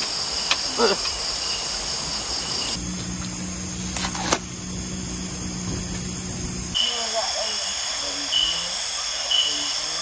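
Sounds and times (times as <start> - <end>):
crickets chirping: 0.0 - 10.0
steady low hum: 0.0 - 10.0.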